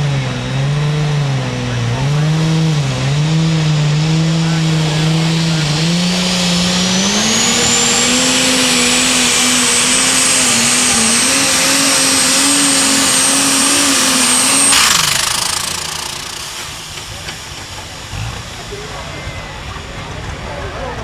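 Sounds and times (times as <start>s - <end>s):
high turbo whine: 0.0s - 20.6s
tractor engine at full throttle: 0.0s - 21.0s.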